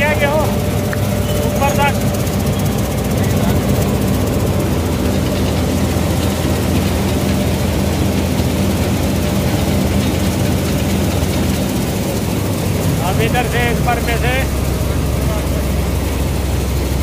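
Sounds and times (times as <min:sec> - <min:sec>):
combine harvester engine drone: 0:00.0 - 0:17.0
unloading auger emptying grain: 0:00.0 - 0:17.0.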